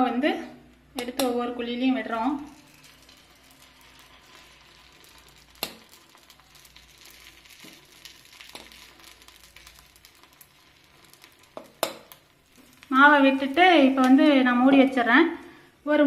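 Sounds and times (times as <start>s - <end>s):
batter sizzling in hot oil: 0.8s - 15.1s.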